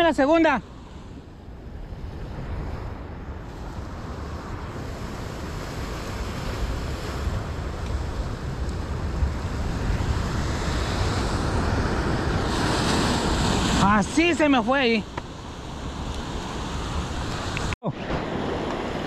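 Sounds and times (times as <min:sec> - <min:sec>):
wind buffeting microphone: 0:00.0 - 0:19.0
surf washing over rocks: 0:03.4 - 0:19.0.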